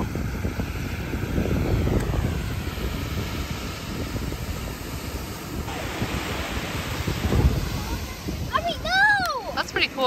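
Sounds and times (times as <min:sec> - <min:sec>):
surf washing on beach: 0:00.0 - 0:10.0
wind rumbling on microphone: 0:00.0 - 0:10.0.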